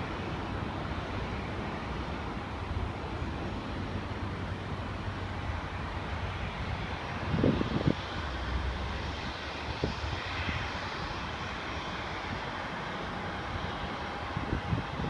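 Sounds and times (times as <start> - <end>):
airliner engines rushing: 0.0 - 15.0
faint engine whine: 0.0 - 15.0.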